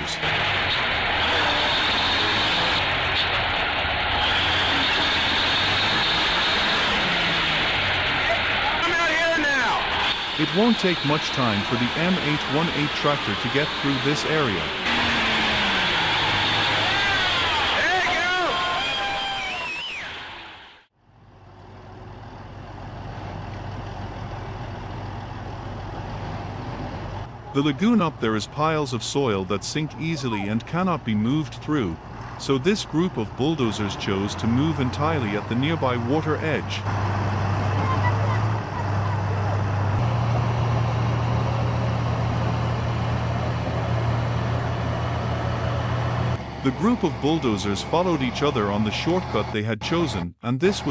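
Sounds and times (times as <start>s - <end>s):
heavy vehicle engine humming: 0.0s - 50.9s.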